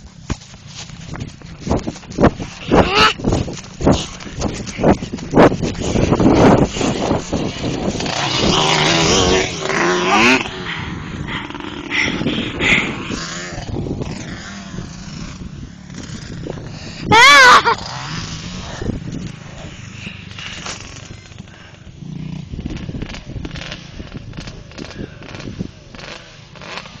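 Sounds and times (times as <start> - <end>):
quad bike engines revving: 0.0 - 27.0.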